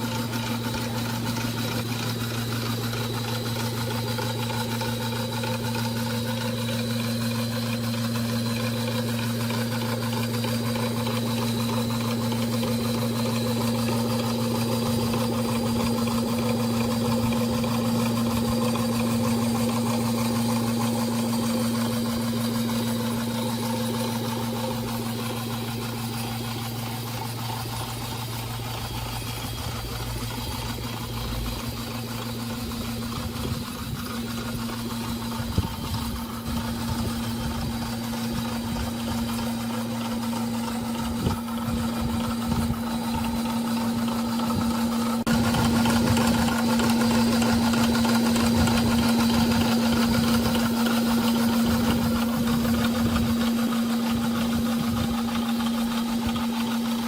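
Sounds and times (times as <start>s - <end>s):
electric motor humming: 0.0s - 57.0s.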